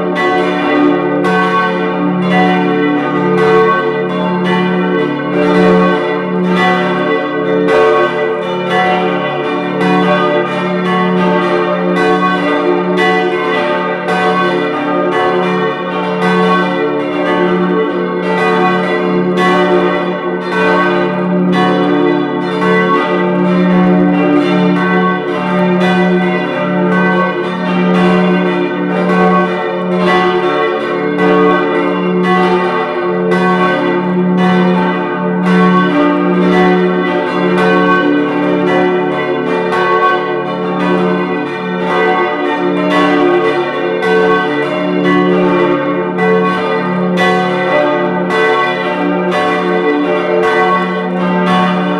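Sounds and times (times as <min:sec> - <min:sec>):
church bells pealing: 0:00.0 - 0:51.9.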